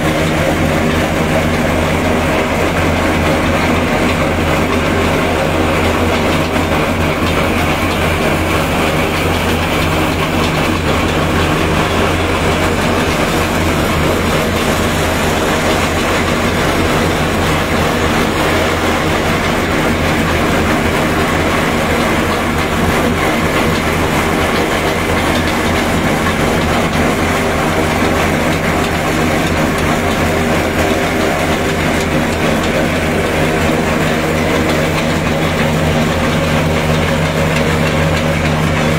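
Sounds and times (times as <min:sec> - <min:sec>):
shelling machine running: 0:00.0 - 0:38.9
tractor engine drone: 0:00.0 - 0:38.9.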